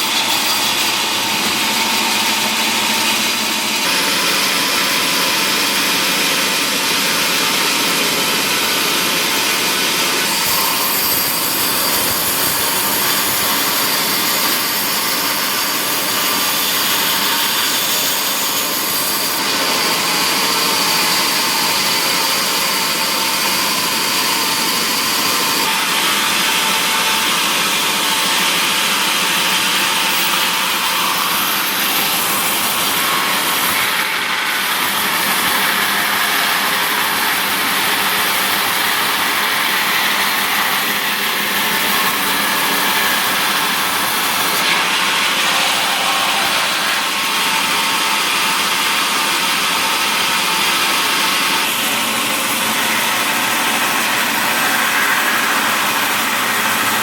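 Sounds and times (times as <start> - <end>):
saw cutting logs: 0.0 - 57.0
sawmill machinery running: 0.0 - 57.0.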